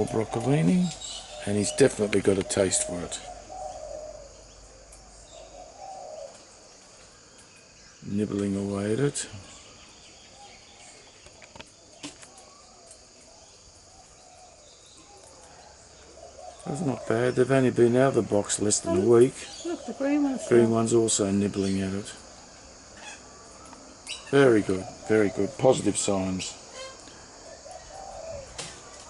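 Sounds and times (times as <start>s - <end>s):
faint bird calls: 0.0s - 29.0s
high-pitched insect chorus: 0.0s - 29.0s
steady high-pitched hiss: 0.0s - 29.0s.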